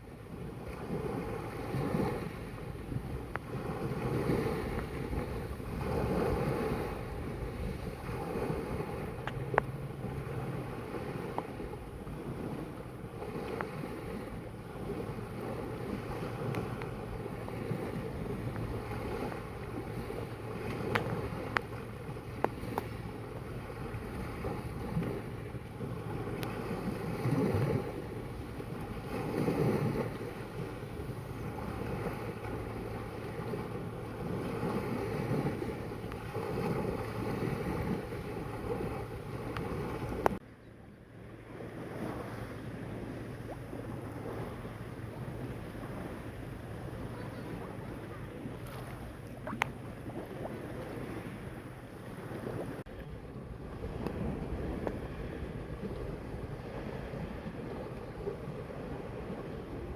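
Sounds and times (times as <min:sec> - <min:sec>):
wind buffeting microphone: 0:00.0 - 0:40.4, 0:41.4 - 0:59.9
sea waves lapping: 0:00.0 - 0:59.9.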